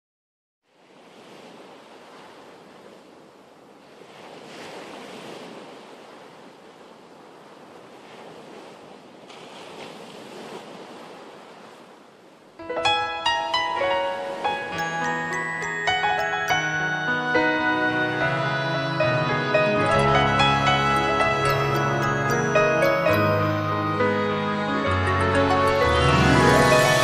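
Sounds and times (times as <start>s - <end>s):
waves washing in: 0.7s - 27.0s.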